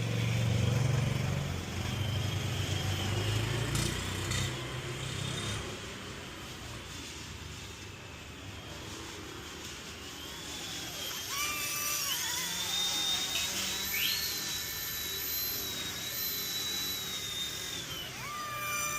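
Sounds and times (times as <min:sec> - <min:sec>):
small electric motors whining: 0:00.0 - 0:18.9.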